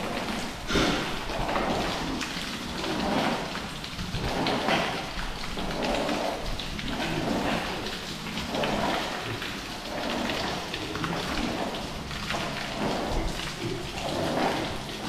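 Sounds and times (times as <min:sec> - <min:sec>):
squeegee scraping water on concrete: 0:00.0 - 0:15.0.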